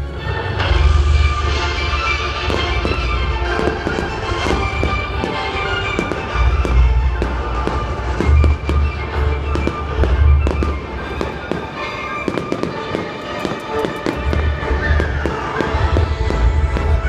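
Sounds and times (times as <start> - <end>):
music: 0.0 - 17.0
fireworks booming: 0.6 - 17.0
fireworks crackling: 0.7 - 17.0.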